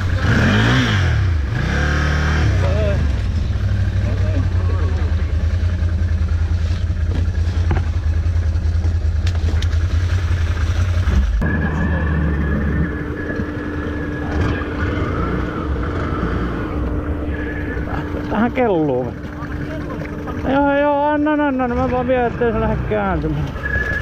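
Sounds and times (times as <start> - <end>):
atv engine running: 0.0 - 24.0
water washing around vehicle: 0.0 - 24.0.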